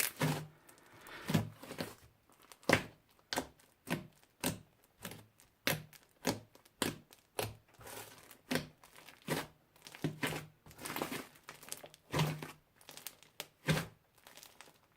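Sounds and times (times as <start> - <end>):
slime crackling and popping: 0.0 - 14.9
slime crinkling: 0.0 - 14.9.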